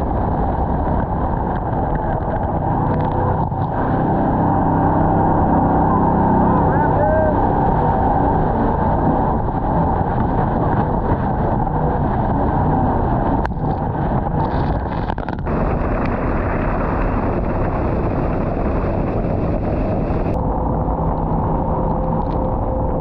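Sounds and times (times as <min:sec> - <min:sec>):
rushing water: 0:00.0 - 0:20.4
jet boat engine: 0:00.0 - 0:23.0
wind buffeting microphone: 0:00.0 - 0:23.0.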